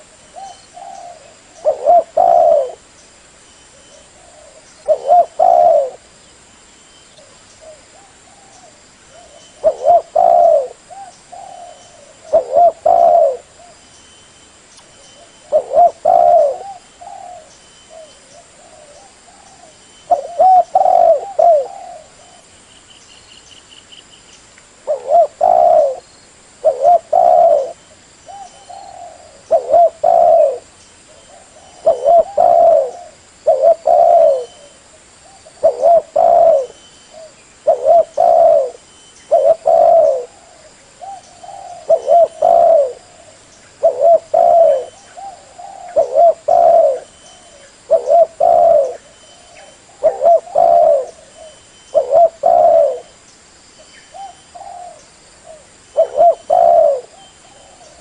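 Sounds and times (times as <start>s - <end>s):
dove cooing: 0.0s - 2.9s, 3.7s - 6.1s, 7.2s - 13.8s, 15.2s - 22.5s, 24.8s - 53.2s, 54.1s - 58.0s.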